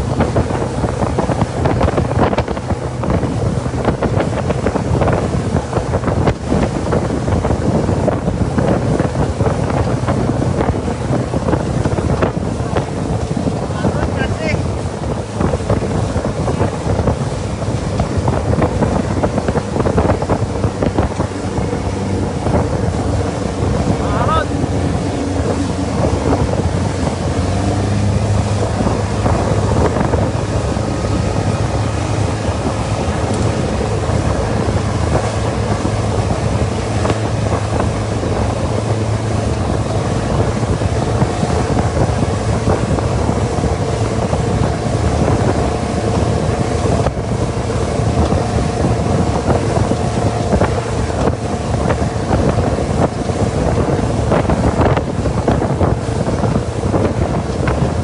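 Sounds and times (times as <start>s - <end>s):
boat motor running: 0.0s - 58.0s
water noise: 0.0s - 58.0s
wind buffeting microphone: 0.0s - 58.0s.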